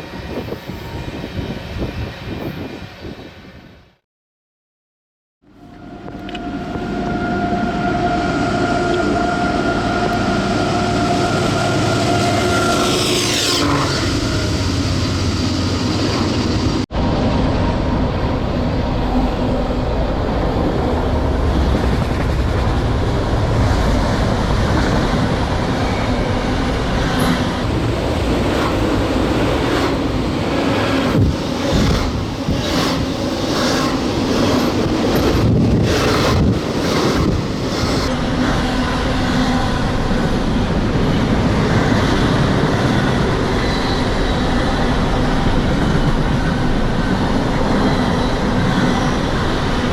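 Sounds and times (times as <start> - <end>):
locomotive whine: 5.4 - 49.9
rail cars rumbling past: 5.5 - 49.9.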